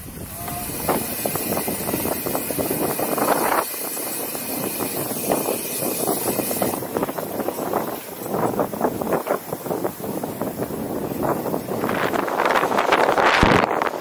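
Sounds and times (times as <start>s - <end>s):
bike tyres crunching on dirt: 0.0s - 14.0s
wind on microphone: 0.0s - 14.0s.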